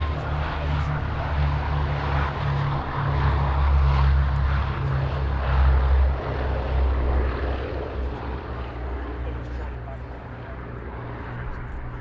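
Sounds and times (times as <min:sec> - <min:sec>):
propeller warplane flying by: 0:00.0 - 0:12.0.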